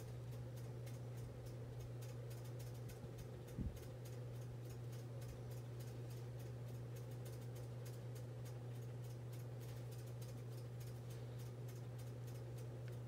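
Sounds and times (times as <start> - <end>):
faint irregular ticking: 0.0 - 13.0
low electrical hum: 0.0 - 13.0.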